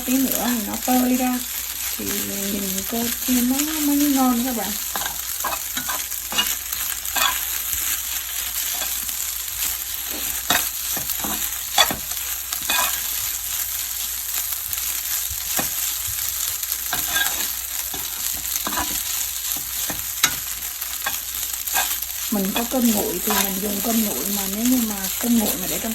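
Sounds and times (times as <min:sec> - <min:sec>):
rice sizzling in a pan: 0:00.0 - 0:25.9
utensil scraping a pan: 0:00.2 - 0:09.2, 0:09.9 - 0:13.4, 0:15.5 - 0:25.9.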